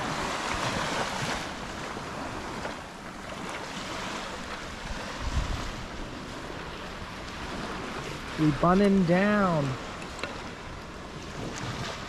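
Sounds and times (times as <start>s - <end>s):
low wind buffet: 0.0s - 12.0s
small waves washing on beach: 0.0s - 12.0s
wind on microphone: 0.0s - 12.0s.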